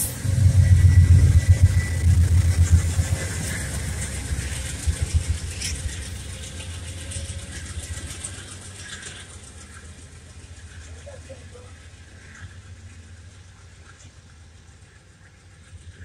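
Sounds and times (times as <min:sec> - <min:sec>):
train pulling away: 0:00.0 - 0:16.0
wheels clacking over rails: 0:00.0 - 0:16.0.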